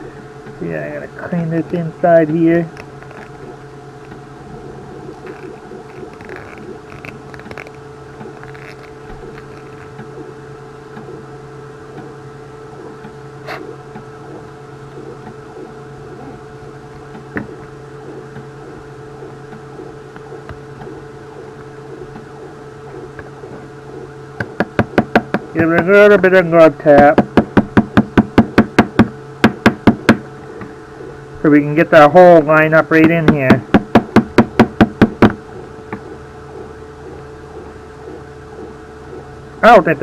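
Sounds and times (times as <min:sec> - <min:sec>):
printer humming: 0:00.0 - 0:40.0.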